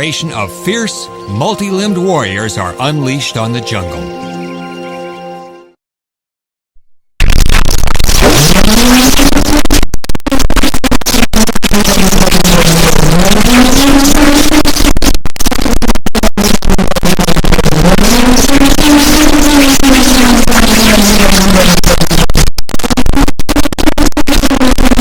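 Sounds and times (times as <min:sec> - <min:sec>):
distorted harsh noise: 0:00.0 - 0:04.0, 0:07.2 - 0:25.0.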